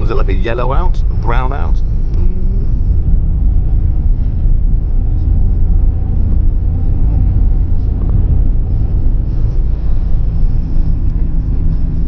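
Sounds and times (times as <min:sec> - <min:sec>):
wind and road noise in car: 0:00.0 - 0:12.0.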